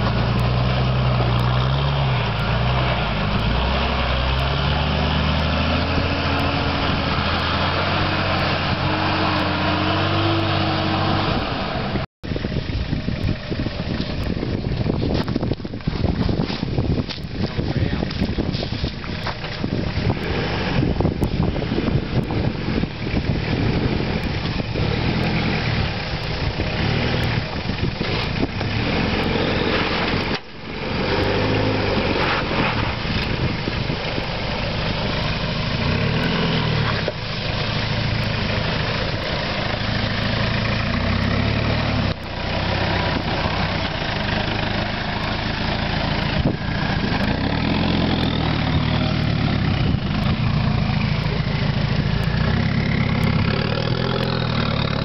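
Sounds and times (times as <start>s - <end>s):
diesel engine revving under load: 0.0s - 15.3s, 19.6s - 55.0s.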